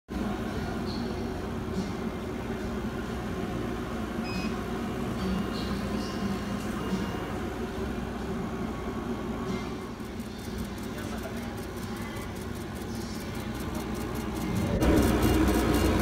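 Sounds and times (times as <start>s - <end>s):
laser cutter humming: 0.2s - 16.0s.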